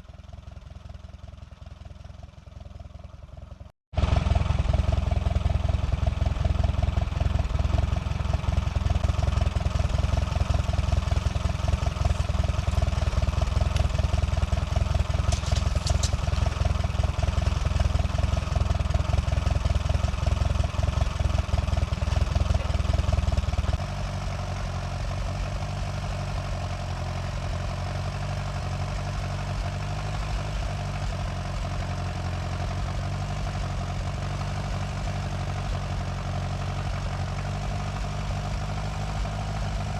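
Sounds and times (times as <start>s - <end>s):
sawmill engine running: 4.0s - 39.9s.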